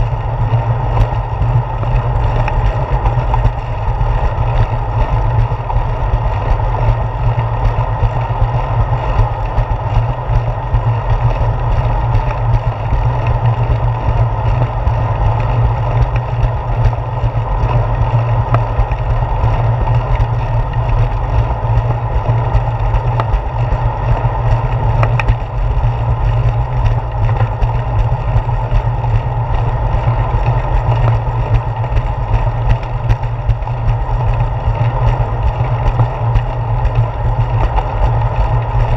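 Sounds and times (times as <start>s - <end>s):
bicycle rolling rumble: 0.0s - 38.9s
faint clicks from bumps: 0.0s - 38.9s
wind buffeting microphone: 0.0s - 38.9s.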